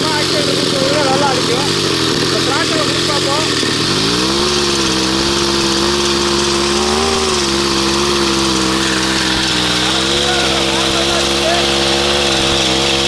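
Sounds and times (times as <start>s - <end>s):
two-stroke engine running: 0.0s - 13.0s.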